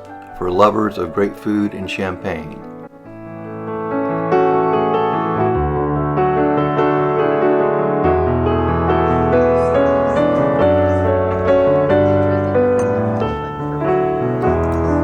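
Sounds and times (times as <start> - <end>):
calm piano melody: 0.0 - 15.0.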